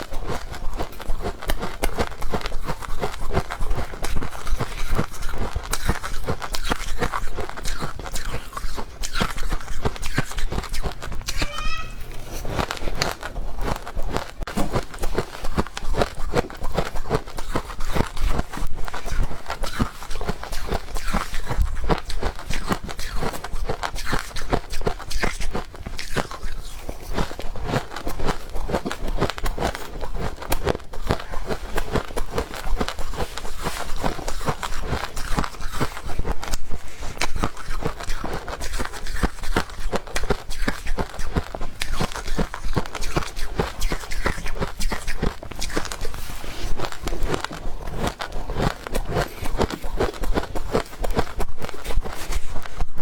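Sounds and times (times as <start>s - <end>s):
chewing frost crunches: 0.0s - 53.0s.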